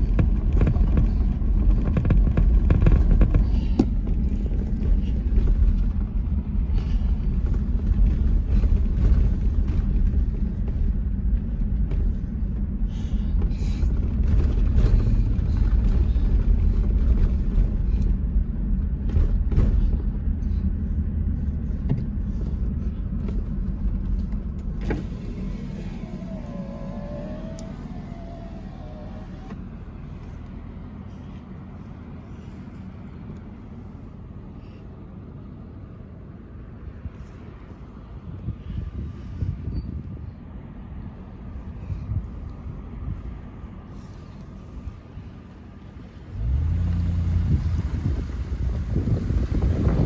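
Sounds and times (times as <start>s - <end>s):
engine and tyres rumbling: 0.0s - 50.0s.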